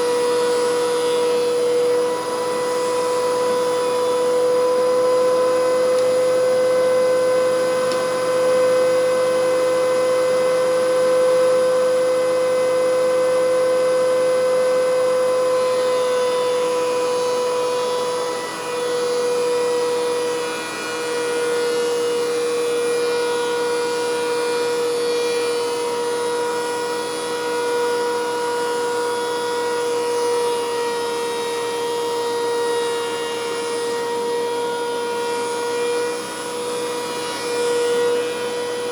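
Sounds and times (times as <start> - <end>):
thickness planer whining: 0.0 - 38.9.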